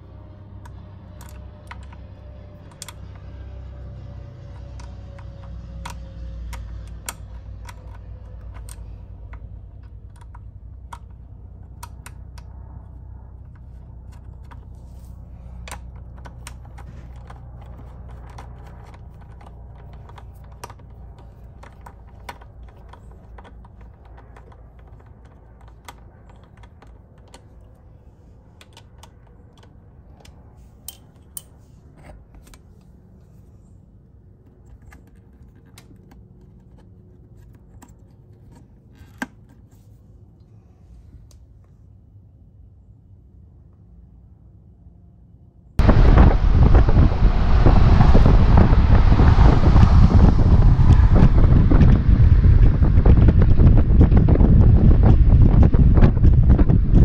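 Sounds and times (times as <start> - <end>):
low steady rumble: 0.0 - 57.0.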